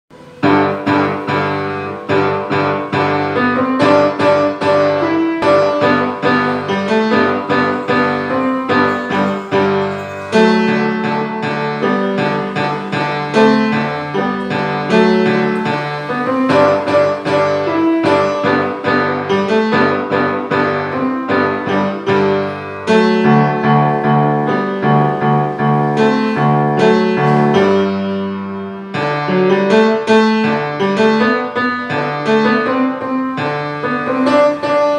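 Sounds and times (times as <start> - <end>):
solo grand piano: 0.1 - 34.9.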